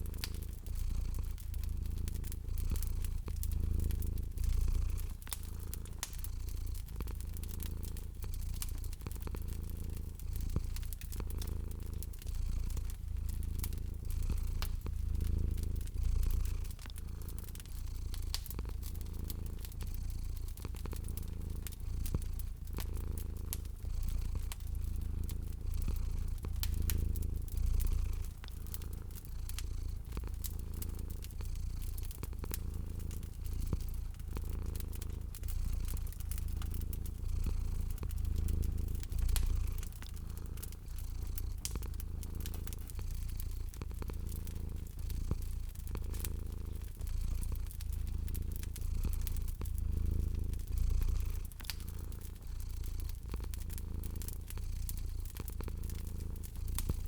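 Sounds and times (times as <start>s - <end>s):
cat purring: 0.0s - 57.0s
wood fire crackling and popping: 0.0s - 57.0s.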